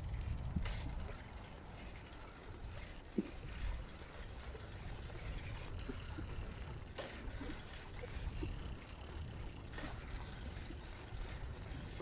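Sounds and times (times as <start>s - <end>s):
faint ticks: 0.0s - 12.0s
low outdoor rumble: 0.0s - 12.0s.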